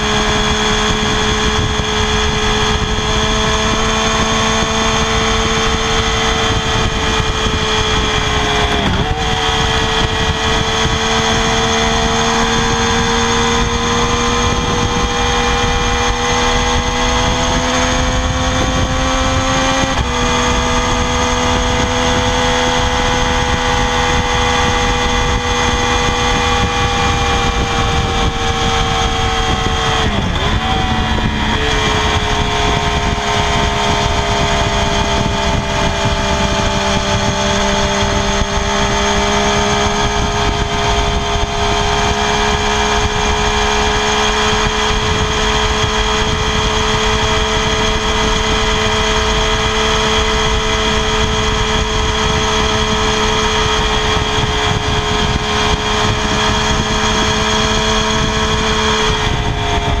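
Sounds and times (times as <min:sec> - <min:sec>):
motorcycle engine at high revs: 0:00.0 - 1:00.0.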